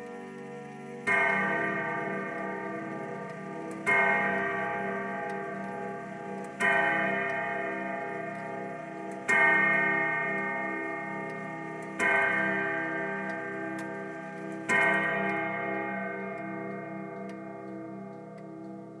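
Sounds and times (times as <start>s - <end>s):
clock striking on chime rods: 0.0s - 19.0s.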